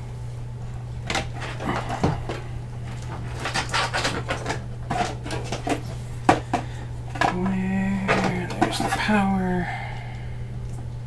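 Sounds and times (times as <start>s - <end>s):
steady low hum: 0.0s - 11.0s
cables rustling: 0.6s - 11.0s.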